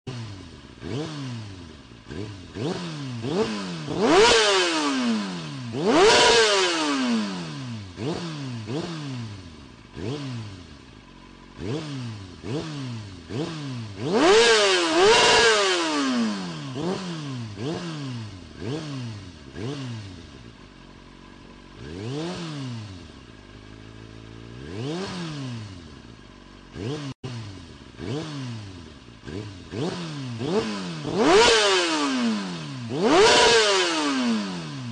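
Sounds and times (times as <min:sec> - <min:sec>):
engine revving: 0:00.0 - 0:34.9.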